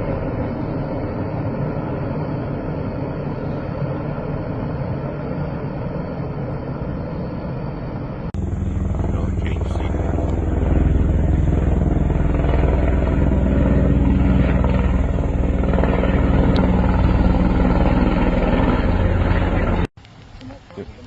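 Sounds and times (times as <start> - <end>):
helicopter engine and rotor: 0.0 - 19.9.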